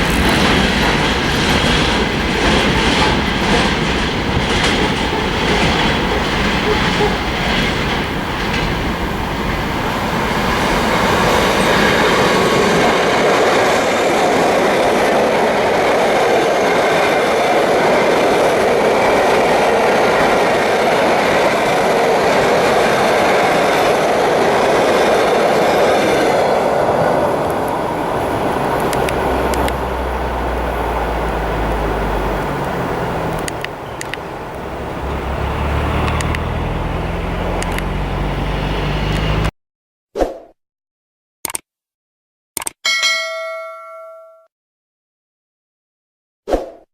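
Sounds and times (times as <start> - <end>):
freight train wagons rolling: 0.0 - 38.3.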